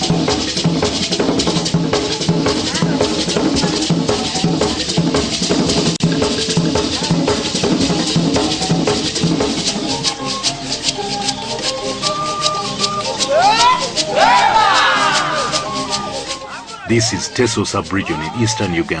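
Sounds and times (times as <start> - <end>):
drums playing dance rhythm: 0.0 - 11.4, 12.0 - 19.0
shakers: 0.0 - 19.0.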